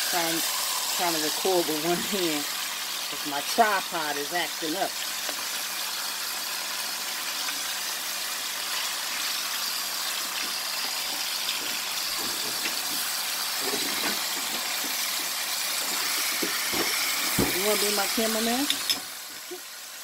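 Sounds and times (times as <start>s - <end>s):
pork chops sizzling in oil: 0.0s - 20.0s.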